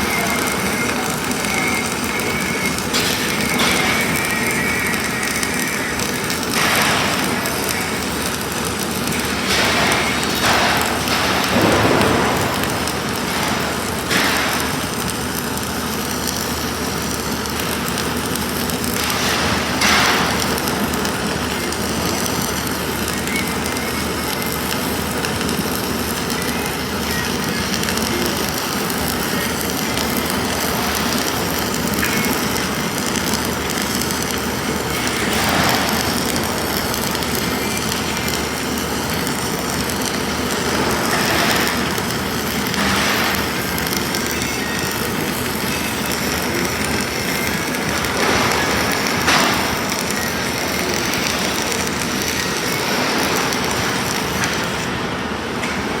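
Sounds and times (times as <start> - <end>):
arc welding crackle: 0.0 - 56.0.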